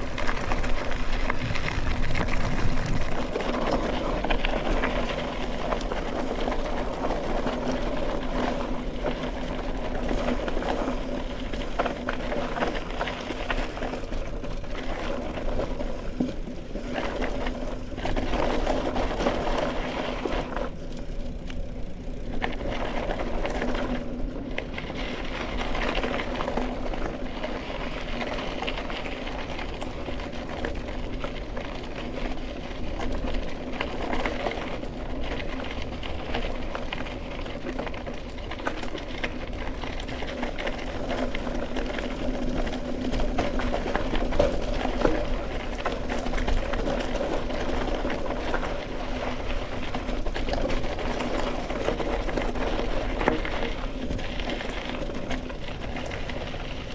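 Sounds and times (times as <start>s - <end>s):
bike tyres rolling over dirt: 0.0s - 56.9s
buzzing hum from bike: 0.0s - 56.9s.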